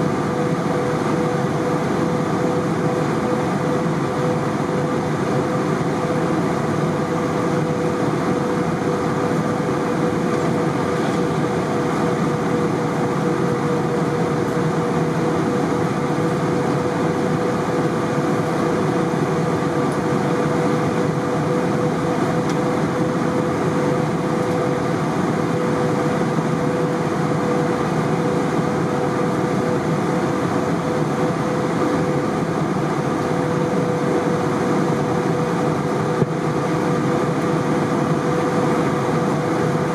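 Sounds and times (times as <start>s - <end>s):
airliner cabin engine rush: 0.0s - 39.9s
constant hum: 0.0s - 39.9s.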